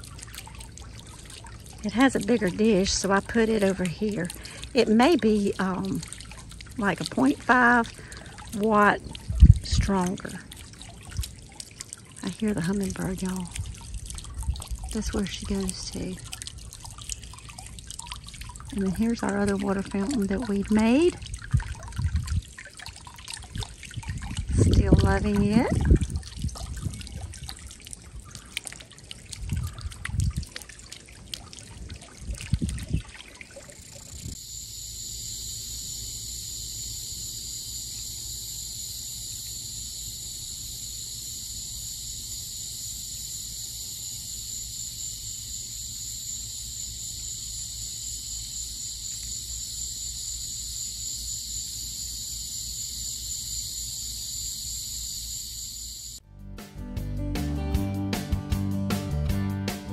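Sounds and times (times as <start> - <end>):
water fountain trickling: 0.0 - 56.2.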